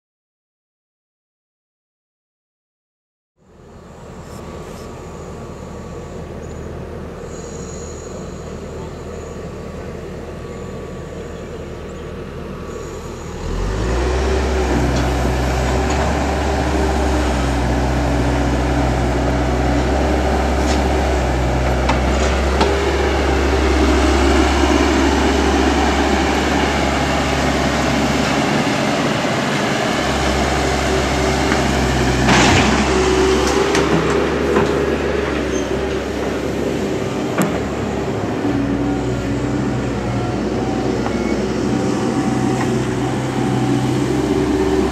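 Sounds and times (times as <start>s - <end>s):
heavy diesel machinery running: 3.4s - 44.9s.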